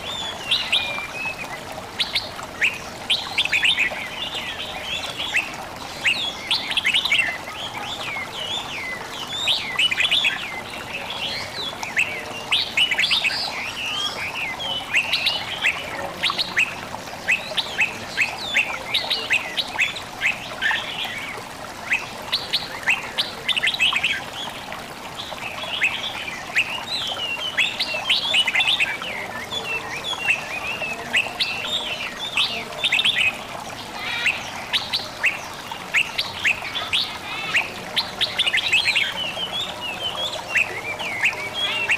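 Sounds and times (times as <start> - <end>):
babbling water: 0.0 - 41.9.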